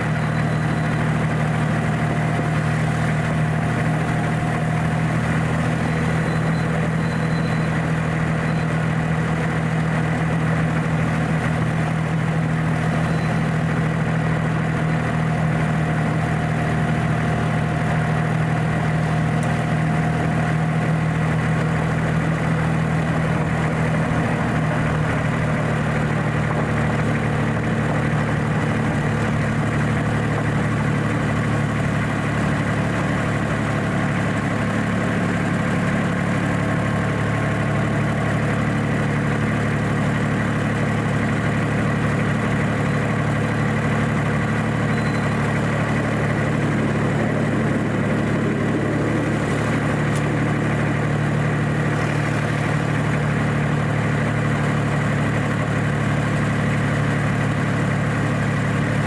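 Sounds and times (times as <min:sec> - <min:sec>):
miniature locomotive engine humming: 0:00.0 - 0:59.0.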